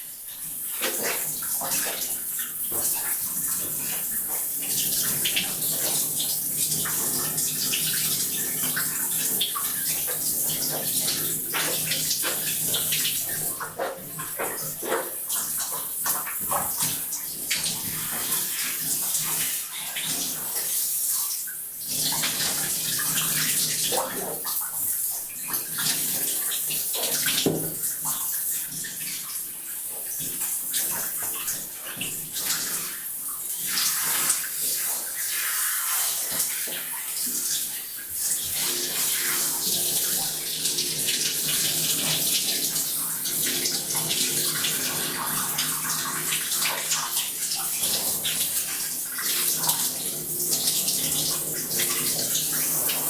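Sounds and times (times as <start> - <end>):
shower water spraying: 0.2 - 53.0
water splashing in tub: 0.5 - 53.0.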